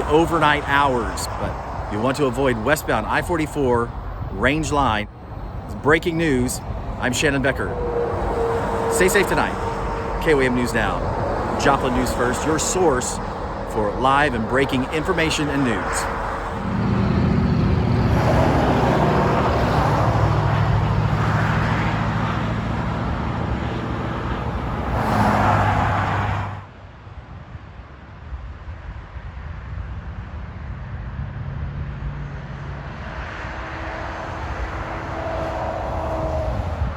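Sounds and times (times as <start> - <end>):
heavy engine humming: 0.0 - 26.7, 33.1 - 36.9
distant traffic: 0.0 - 27.1, 30.2 - 36.9
vehicles passing: 0.0 - 28.4, 29.2 - 36.9.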